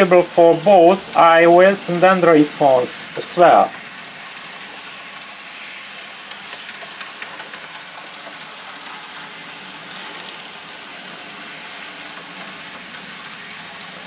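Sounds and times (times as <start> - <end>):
model train motors whirring: 0.0 - 14.0
wheels clicking over track: 0.0 - 14.0.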